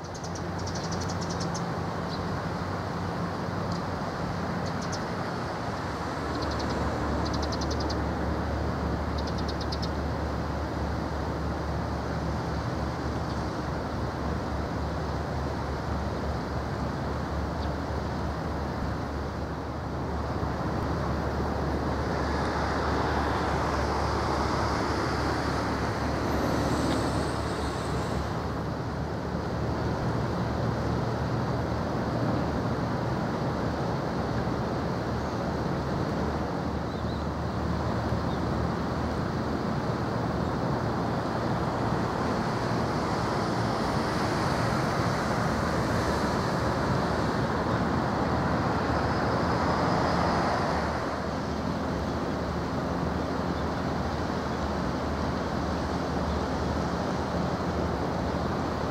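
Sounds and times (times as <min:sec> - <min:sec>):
outdoor background rumble and hiss: 0:00.0 - 0:58.9.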